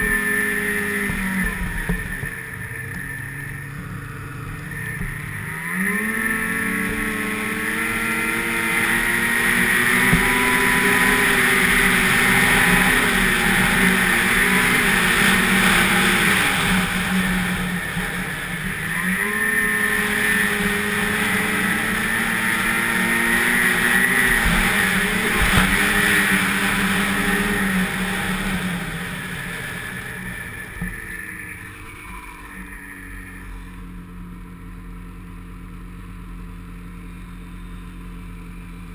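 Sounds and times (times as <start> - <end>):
snowmobile engine revving: 0.0 - 35.8.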